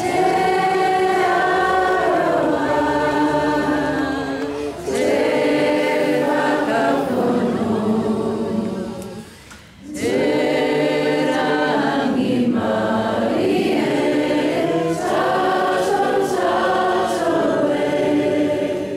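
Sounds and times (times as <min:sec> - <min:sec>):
choir singing held notes: 0:00.0 - 0:18.9.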